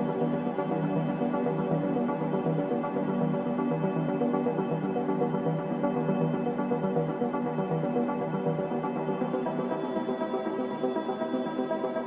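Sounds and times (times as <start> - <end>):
ambient meditation music: 0.0 - 12.0.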